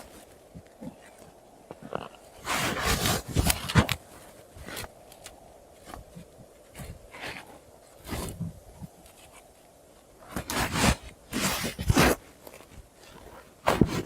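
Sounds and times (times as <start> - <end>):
scraping and rustling handling noise: 0.0 - 14.0.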